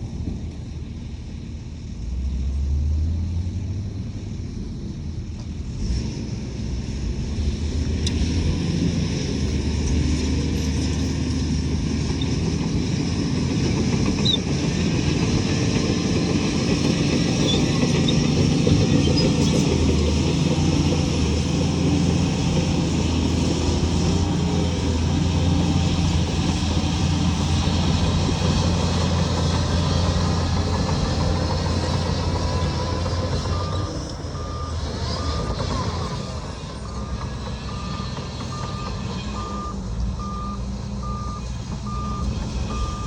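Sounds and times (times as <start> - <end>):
heavy diesel engine droning: 0.0 - 43.0.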